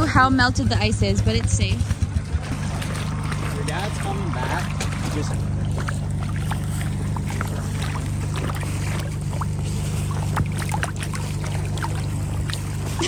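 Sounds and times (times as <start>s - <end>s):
steady low hum: 0.0s - 13.0s
boots splashing through slush: 1.0s - 13.0s.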